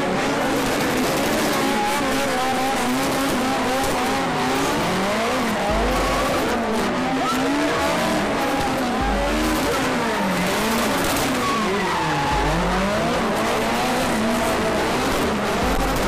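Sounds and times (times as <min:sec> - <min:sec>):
car engine revving: 0:00.0 - 0:16.0
tyres squealing and skidding: 0:00.0 - 0:16.0.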